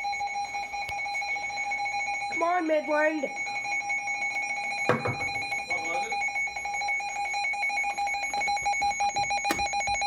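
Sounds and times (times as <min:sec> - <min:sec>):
rapidly pulsing high beep: 0:00.0 - 0:10.0.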